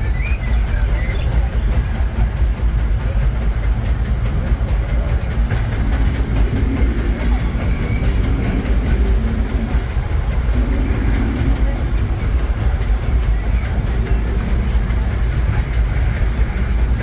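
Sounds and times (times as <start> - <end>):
train coach rumbling and rattling: 0.0 - 17.0.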